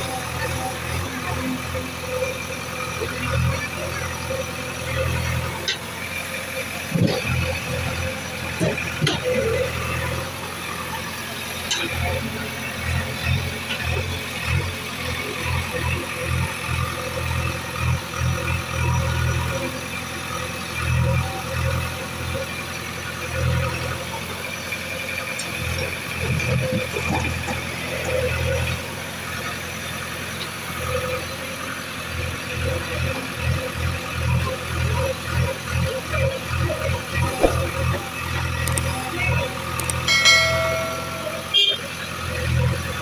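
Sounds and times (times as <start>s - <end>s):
heavy machine engine running: 0.0s - 43.0s.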